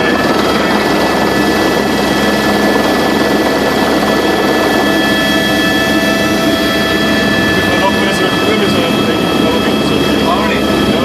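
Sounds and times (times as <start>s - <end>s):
helicopter engine and rotor: 0.0s - 11.0s
high whine: 0.0s - 11.0s.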